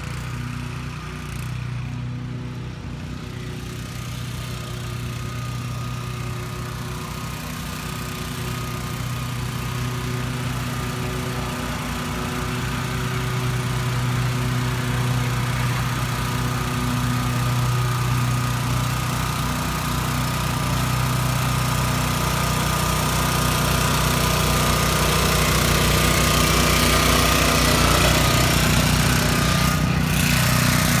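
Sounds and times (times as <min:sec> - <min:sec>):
walk-behind tractor engine running: 0:00.0 - 0:31.0.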